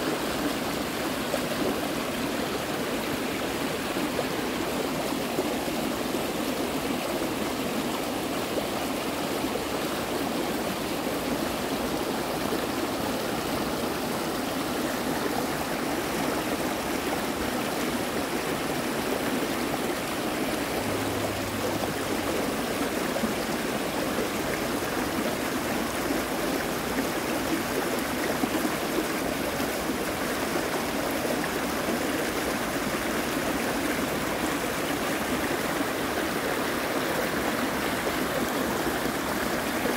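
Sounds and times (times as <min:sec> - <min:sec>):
creek water over rapids: 0:00.0 - 0:39.9.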